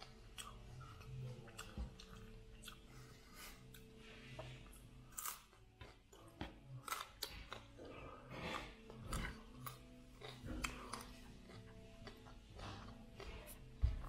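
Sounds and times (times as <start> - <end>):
broccoli being chewed: 0.0 - 14.0.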